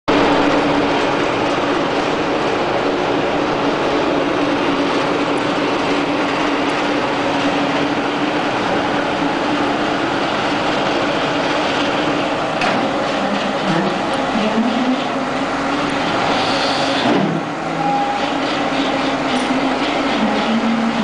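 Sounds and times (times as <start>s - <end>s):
excavator diesel engine humming: 0.1s - 21.0s.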